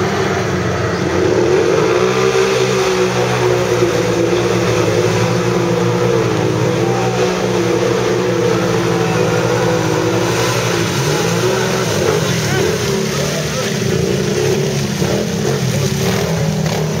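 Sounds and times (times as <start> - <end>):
atv engines revving under load: 0.0 - 17.0.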